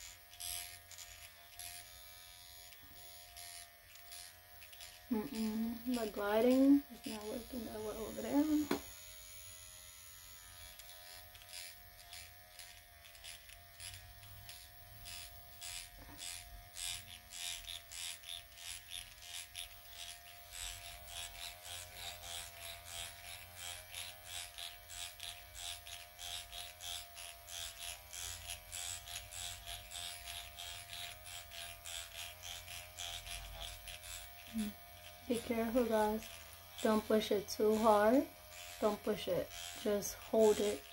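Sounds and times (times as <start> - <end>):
microneedling pen motor whine: 0.0 - 40.9
needle scratching across skin: 0.0 - 40.9.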